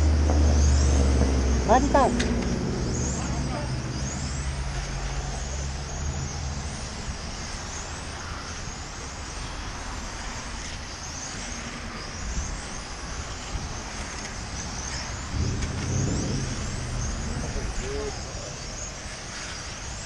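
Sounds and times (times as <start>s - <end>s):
outdoor noise: 0.0s - 20.0s.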